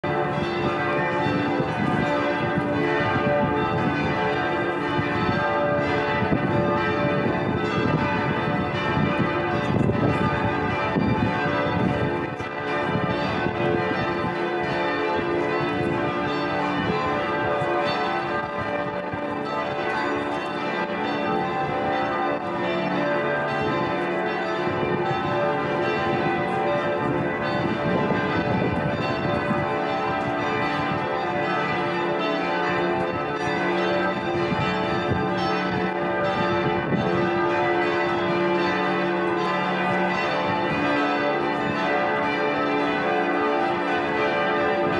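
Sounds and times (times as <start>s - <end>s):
church bells ringing in a full peal: 0.0s - 44.9s.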